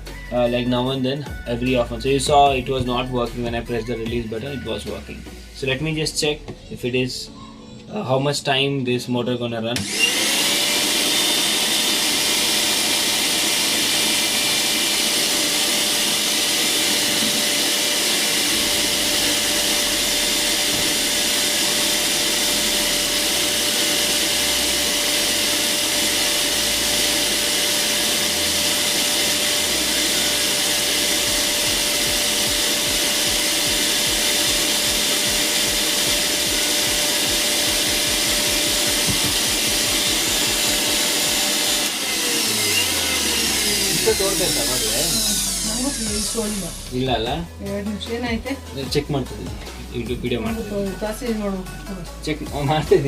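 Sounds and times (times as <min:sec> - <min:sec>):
mixer grinder motor whining: 0:09.7 - 0:53.0.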